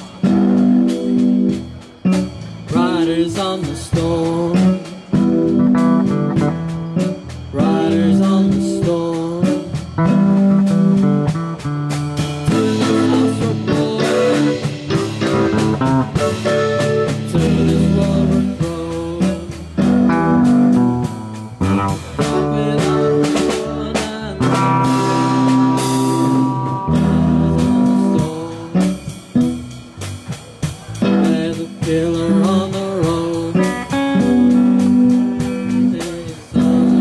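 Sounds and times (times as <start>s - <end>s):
live band led by guitar: 0.0s - 37.0s.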